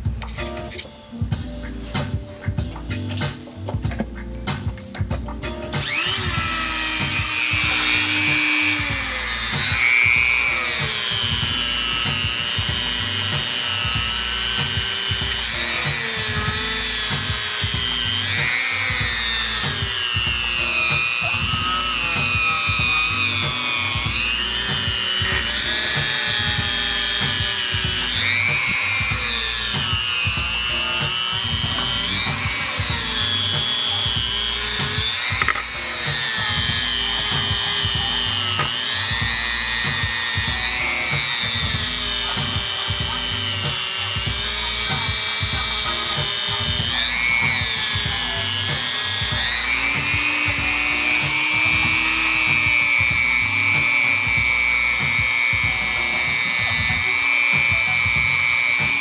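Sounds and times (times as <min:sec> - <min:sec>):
rotary tool wire wheel whining: 0:05.6 - 0:59.0.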